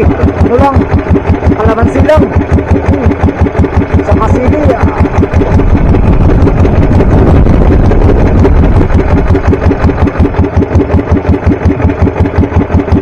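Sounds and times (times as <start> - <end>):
small boat engine chugging: 0.0 - 13.0.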